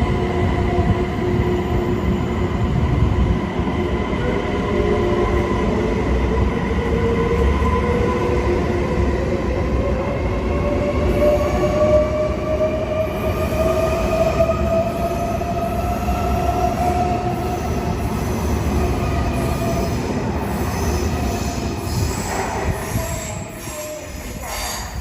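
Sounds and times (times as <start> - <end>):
multi-tone train whine: 0.0 - 25.0
train rumble on rails: 0.0 - 25.0.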